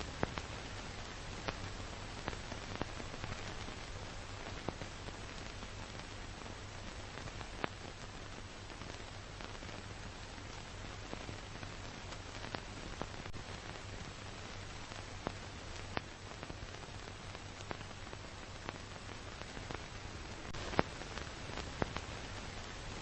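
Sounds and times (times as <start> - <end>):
film surface hiss: 0.0 - 23.0
sharp pops and crackles: 0.0 - 23.0.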